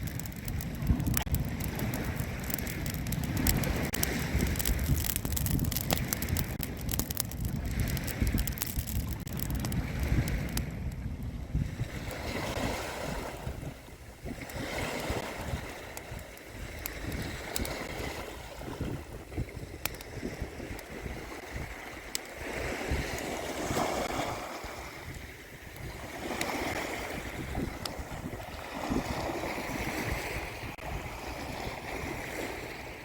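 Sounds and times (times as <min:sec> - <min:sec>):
campfire crackles: 0:00.0 - 0:31.0
small waves washing onto beach: 0:00.0 - 0:33.0
wind rumbling on microphone: 0:00.0 - 0:33.0.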